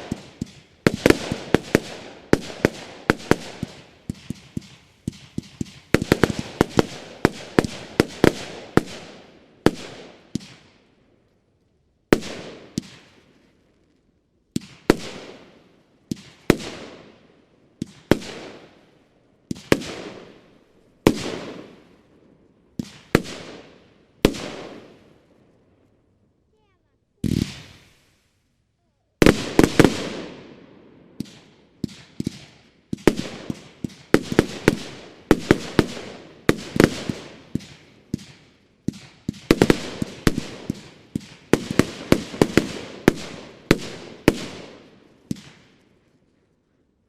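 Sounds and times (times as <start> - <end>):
firework shots and bursts: 0.0 - 10.9, 12.1 - 13.5, 14.5 - 22.1, 22.7 - 25.4, 26.5 - 28.4, 29.0 - 46.0.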